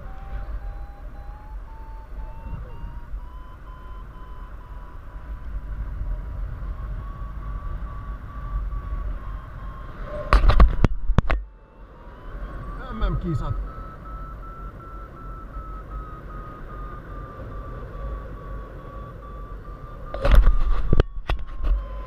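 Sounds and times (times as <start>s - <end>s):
variometer beeping: 0.0s - 22.0s
wind noise on microphone: 0.0s - 22.0s.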